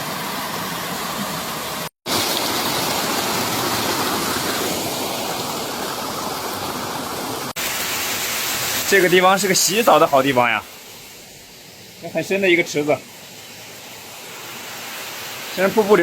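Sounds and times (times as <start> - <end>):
stream rushing over rock: 0.0 - 16.0.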